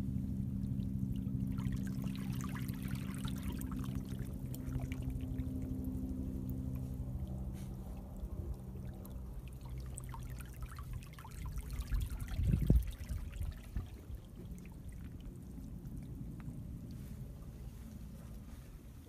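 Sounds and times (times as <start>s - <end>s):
low rumble: 0.0s - 19.0s
small water splashes: 0.1s - 18.2s
seawater trickling over rocks: 0.3s - 19.0s.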